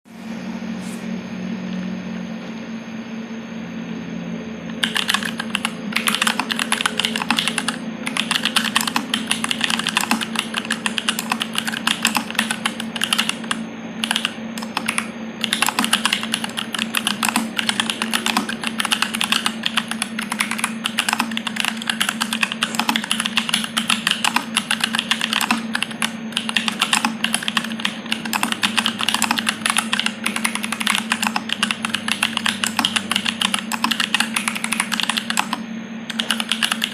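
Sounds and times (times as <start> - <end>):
steady low hum: 0.1 - 36.9
mechanical keyboard typing: 4.7 - 36.9.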